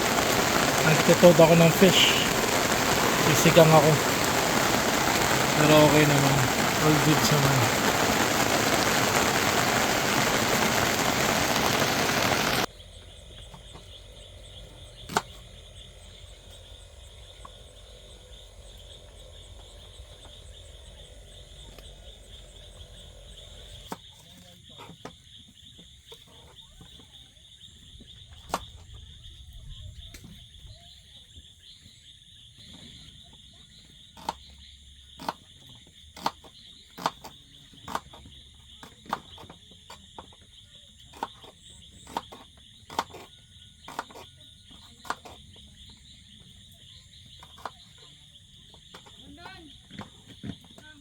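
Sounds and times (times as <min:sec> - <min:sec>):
high insect chorus: 0:00.0 - 0:51.0.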